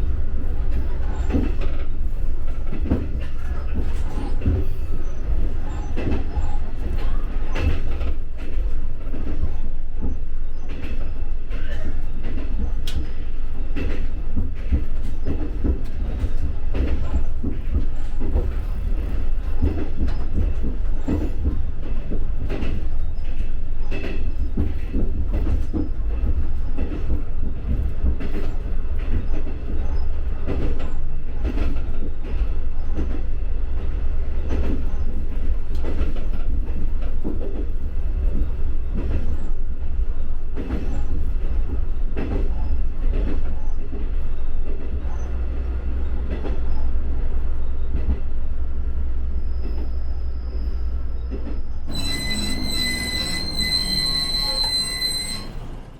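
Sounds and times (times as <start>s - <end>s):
railcar engine and wheels rumbling: 0.0s - 55.9s.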